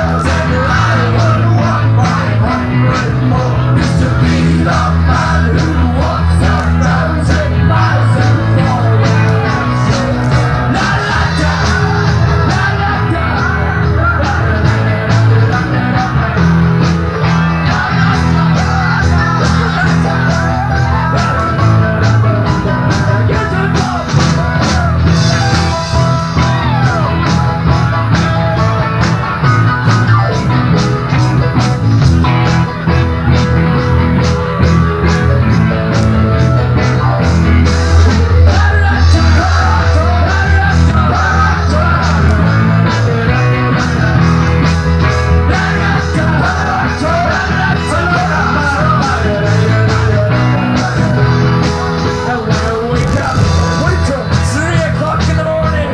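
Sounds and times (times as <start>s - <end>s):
bass: 0.0s - 55.9s
drum kit fast beat: 0.0s - 55.9s
electric guitar: 0.0s - 55.9s
keyboards: 0.0s - 55.9s.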